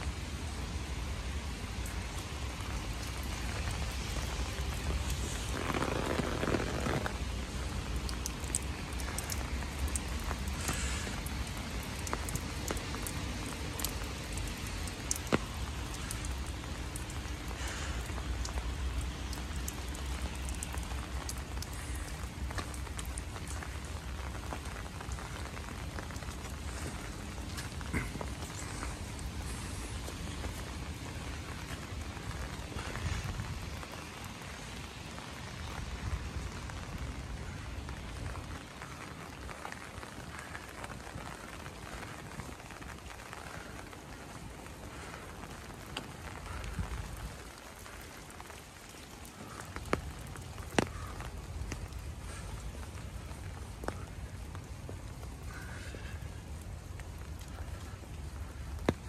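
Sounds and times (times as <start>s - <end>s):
light rain: 0.0s - 59.0s.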